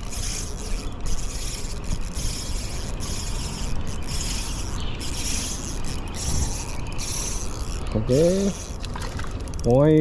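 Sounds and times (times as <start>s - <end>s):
fishing reel whirring: 0.0s - 10.0s.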